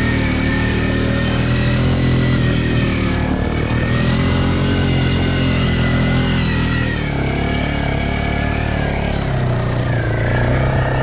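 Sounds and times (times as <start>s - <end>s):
off-road vehicle engines running: 0.0s - 11.0s.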